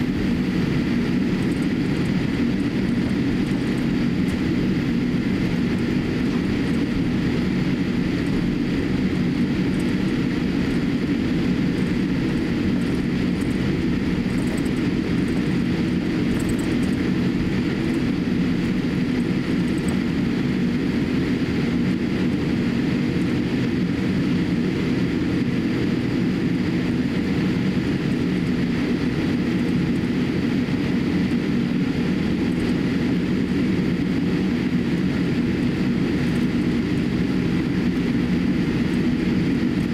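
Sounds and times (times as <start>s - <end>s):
low cabin rumble: 0.0s - 39.9s.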